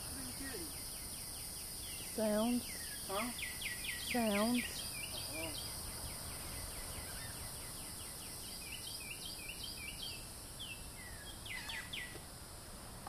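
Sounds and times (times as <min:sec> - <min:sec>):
birds chirping: 0:00.0 - 0:12.2
background hiss: 0:00.0 - 0:13.0.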